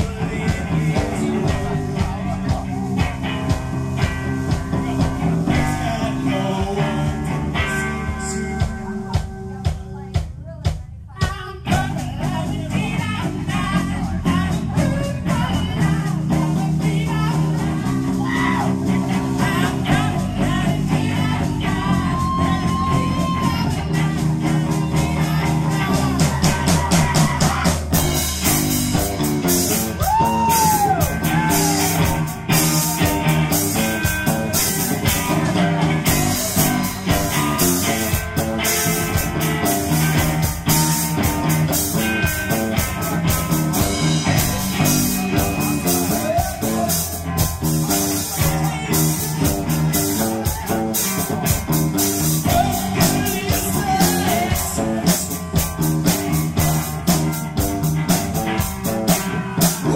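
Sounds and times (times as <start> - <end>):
electric guitars: 0.0 - 10.1, 11.7 - 59.9
person singing: 0.0 - 59.9
steady drum beat: 0.0 - 59.9.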